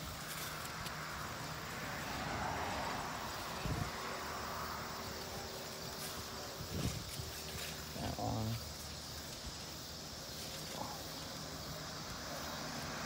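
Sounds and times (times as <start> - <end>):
fig leaves rustling: 0.0 - 13.0
outdoor background hiss: 0.0 - 13.0.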